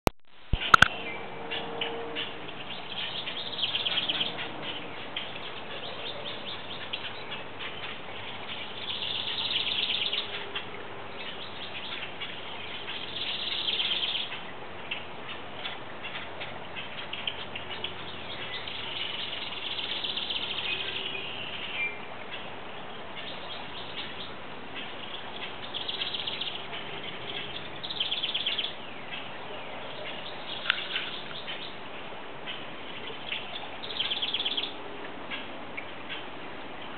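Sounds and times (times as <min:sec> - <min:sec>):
steady background noise: 0:00.3 - 0:36.9
birds singing trills: 0:00.5 - 0:36.9.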